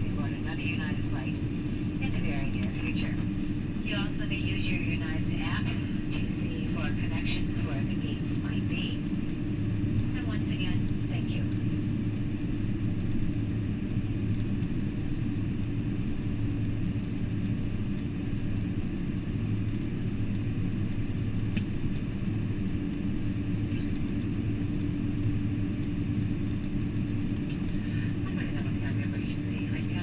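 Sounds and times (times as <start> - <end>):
aircraft cabin rumble: 0.0 - 30.0.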